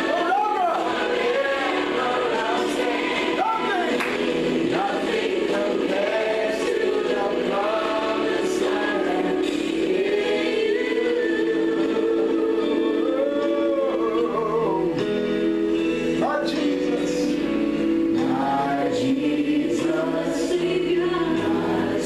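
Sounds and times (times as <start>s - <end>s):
choir singing gospel: 0.0s - 22.0s.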